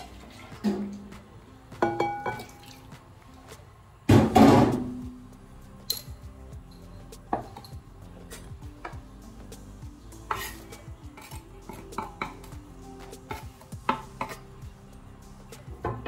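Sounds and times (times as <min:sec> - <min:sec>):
faint background music: 0:00.0 - 0:16.0.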